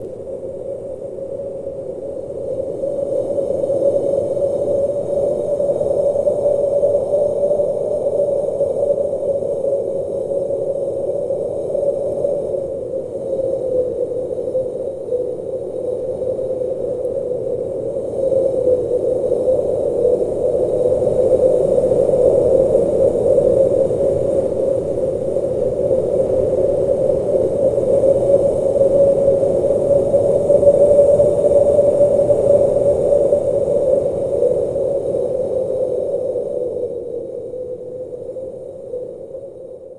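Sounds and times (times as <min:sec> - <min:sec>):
wind howling: 0:00.0 - 0:39.9.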